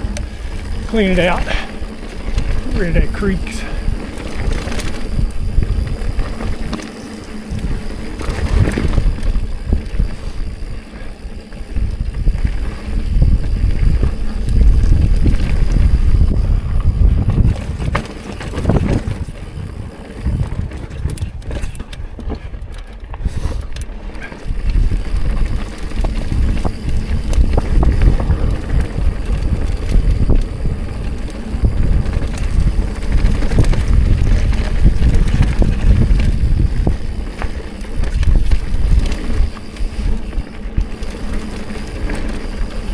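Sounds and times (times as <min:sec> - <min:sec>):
bike tyres rolling over rocks: 0:00.0 - 0:42.9
wind rumbling on microphone: 0:00.0 - 0:42.9.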